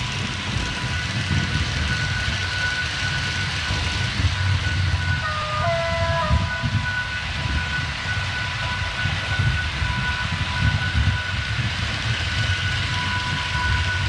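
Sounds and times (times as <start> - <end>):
model train wheels rumbling: 0.0 - 14.0
steady high whine: 0.0 - 14.0.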